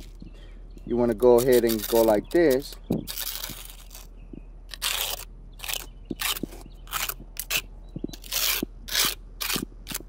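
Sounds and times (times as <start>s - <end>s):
trowel scraping mortar on concrete: 1.0s - 4.1s, 4.7s - 10.0s.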